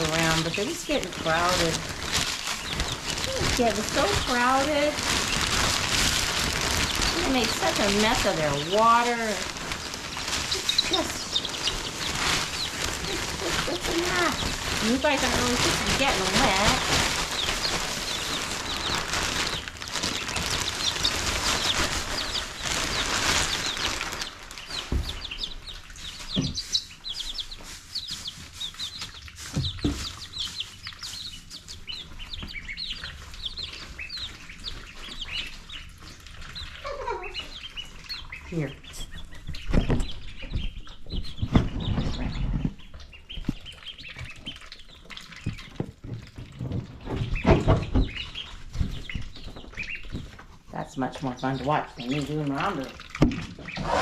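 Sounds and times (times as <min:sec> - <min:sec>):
loud rustling: 0:00.0 - 0:50.7
baby chicks peeping: 0:00.0 - 0:54.0.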